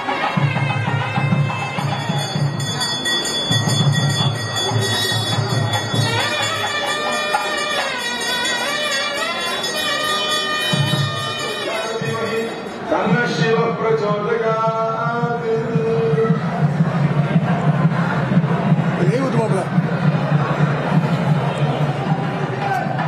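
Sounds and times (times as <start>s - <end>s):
drum beating: 0.0s - 9.0s, 9.9s - 13.4s, 14.5s - 23.0s.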